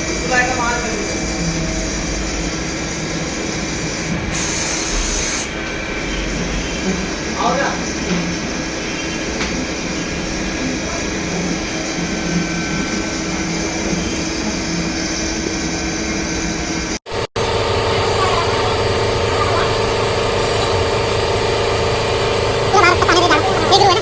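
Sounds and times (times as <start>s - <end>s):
lathe running with a hum: 0.0s - 24.0s.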